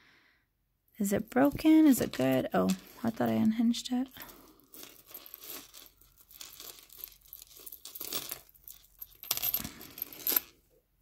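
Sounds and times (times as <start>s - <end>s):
jewelry clicking and clinking: 1.0s - 10.6s.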